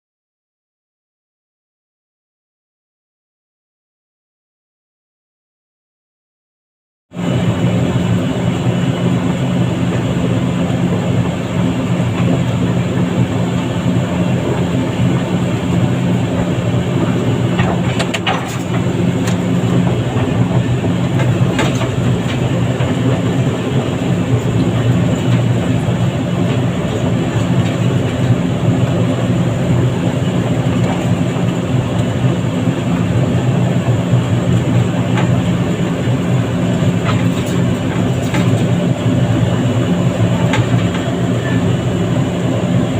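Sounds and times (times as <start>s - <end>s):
heavy diesel engine droning: 7.2s - 42.9s.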